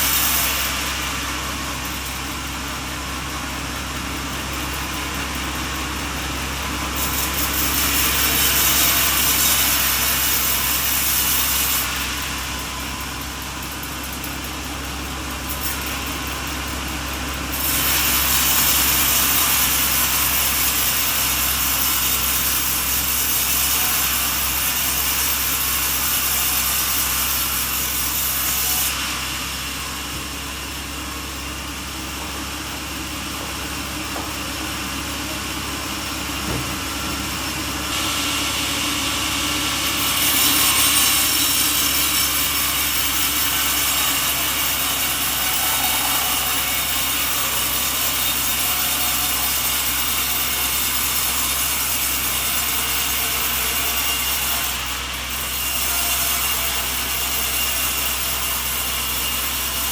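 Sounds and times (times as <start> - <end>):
saw cutting through wood: 0.0 - 59.9.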